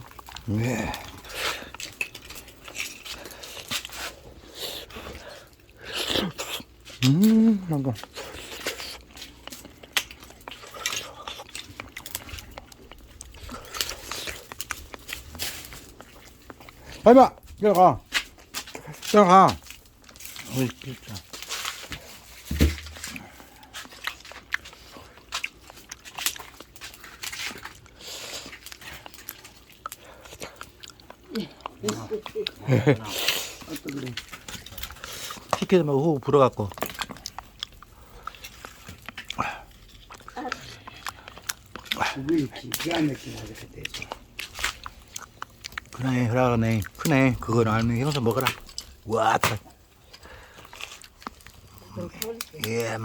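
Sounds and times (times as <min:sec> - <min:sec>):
people chewing: 0:00.0 - 0:53.0.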